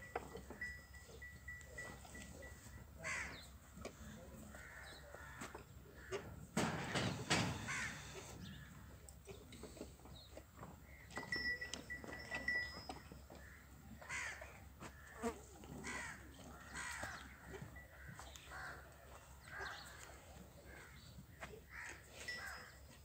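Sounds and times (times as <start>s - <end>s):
farmyard background: 0.0s - 23.0s
birds calling: 0.6s - 15.2s, 15.8s - 23.0s.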